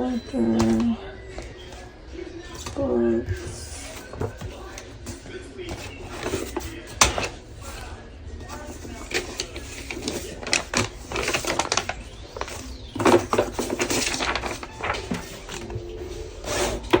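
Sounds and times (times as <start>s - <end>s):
paper and folders being handled: 0.0s - 17.0s.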